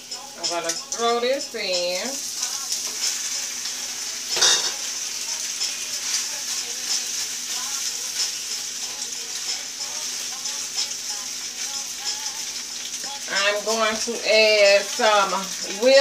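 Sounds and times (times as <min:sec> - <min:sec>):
pasta sizzling in a skillet: 0:00.0 - 0:16.0.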